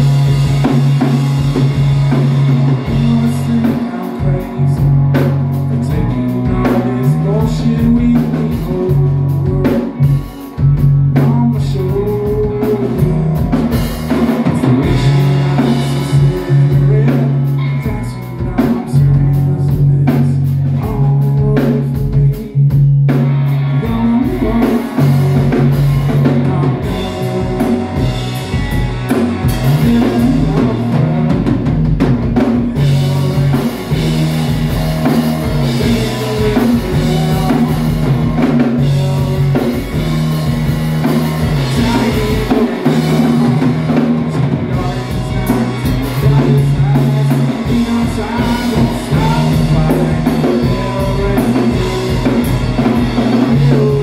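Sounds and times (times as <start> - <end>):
rock music: 0.0 - 54.0.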